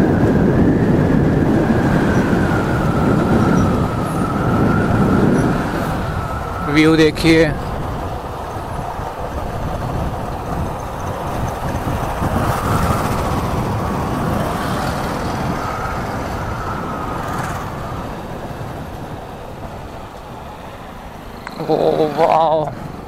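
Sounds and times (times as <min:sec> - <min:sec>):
wind noise: 0:00.0 - 0:23.0.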